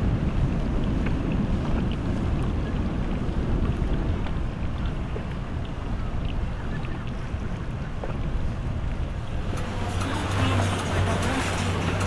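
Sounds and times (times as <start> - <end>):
boats on water: 0.0 - 12.0
wind rumbling on microphone: 0.0 - 12.0.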